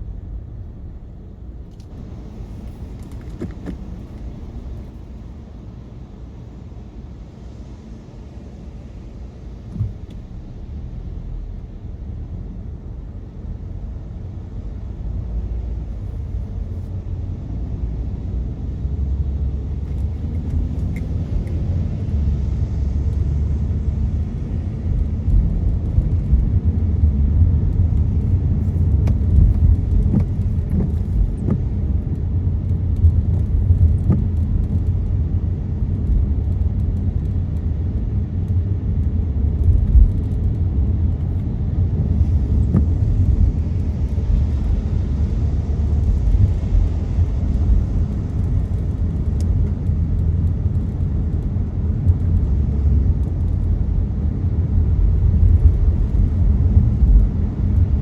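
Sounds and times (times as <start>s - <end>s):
car road and drivetrain rumble: 0.0s - 58.0s.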